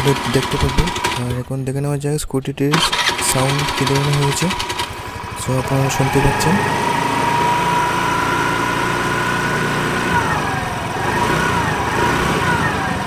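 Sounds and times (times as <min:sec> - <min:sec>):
scooter engine revving: 0:00.0 - 0:01.6, 0:02.7 - 0:13.0.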